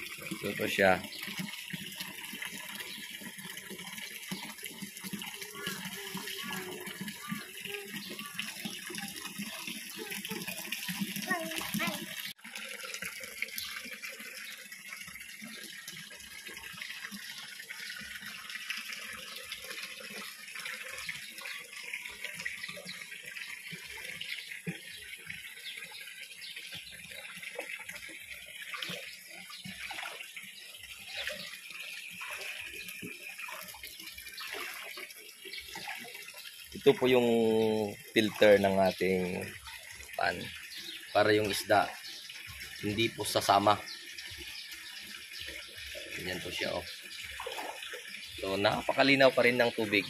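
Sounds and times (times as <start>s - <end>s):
water trickling and splashing: 0.0s - 50.0s.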